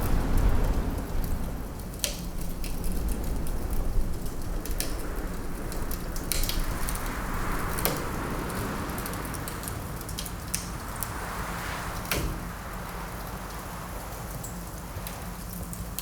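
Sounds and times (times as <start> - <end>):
fire popping: 0.0 - 16.0
low wind rumble: 0.0 - 16.0
wood fire crackling: 0.0 - 16.0.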